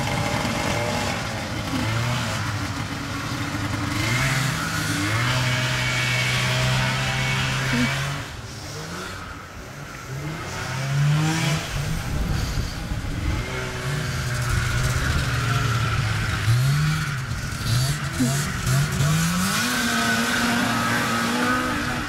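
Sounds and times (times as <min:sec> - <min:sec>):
snowmobile engine revving: 0:00.0 - 0:22.0.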